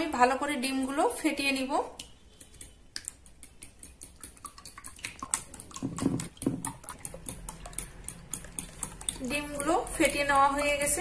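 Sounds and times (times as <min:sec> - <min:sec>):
utensil clicking against glass bowl: 0:02.0 - 0:10.9
liquid egg sloshing: 0:02.0 - 0:11.0.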